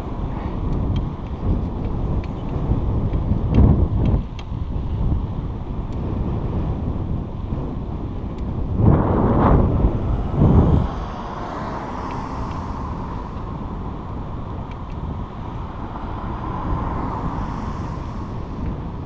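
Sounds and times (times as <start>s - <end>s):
bicycle rolling noise: 0.0s - 19.0s
wind buffeting microphone: 0.0s - 19.0s.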